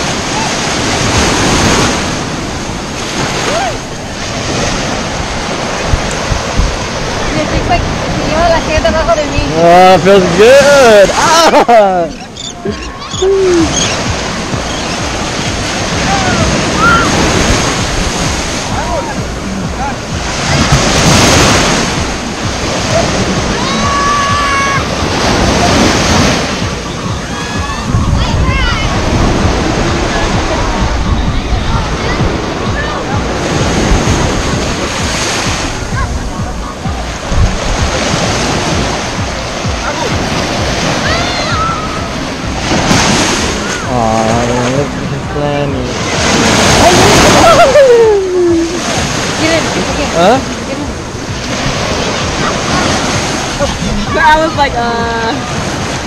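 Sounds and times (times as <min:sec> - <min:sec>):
wind buffeting microphone: 0:00.0 - 0:11.4, 0:12.1 - 0:56.0
ocean surf breaking: 0:00.0 - 0:56.0.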